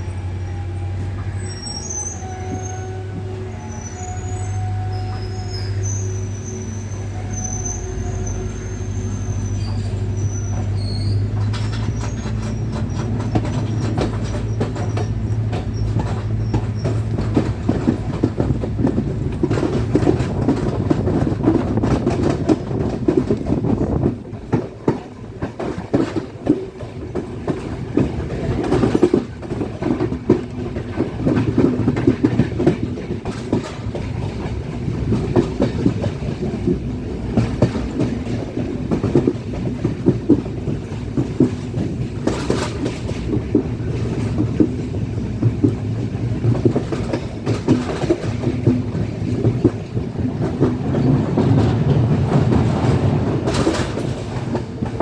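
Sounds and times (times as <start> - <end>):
train wheels clattering over rails: 0.0 - 55.0.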